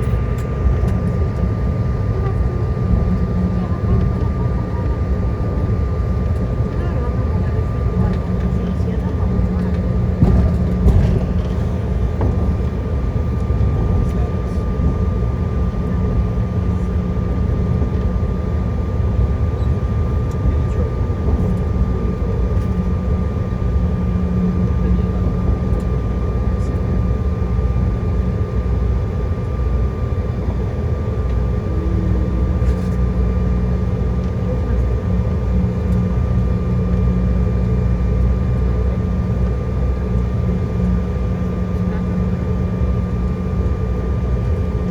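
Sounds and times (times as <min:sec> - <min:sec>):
airliner cabin hum: 0:00.0 - 0:44.9.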